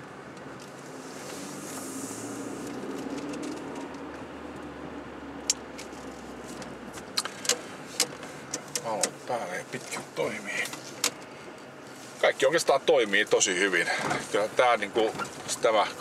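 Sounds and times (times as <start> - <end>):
car engine and tyres humming: 0.0 - 16.0.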